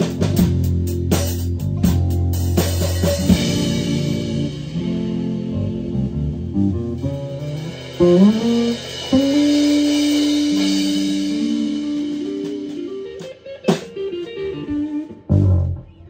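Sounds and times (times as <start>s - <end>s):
electric guitars playing slowly: 0.0s - 16.0s.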